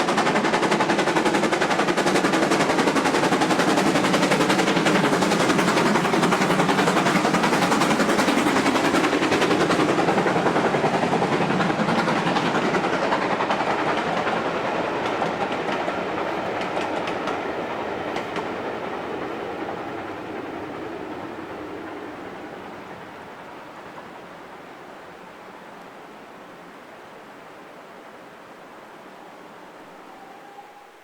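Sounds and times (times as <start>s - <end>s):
rail noise: 0.0s - 31.0s
steam train running past: 0.0s - 31.0s.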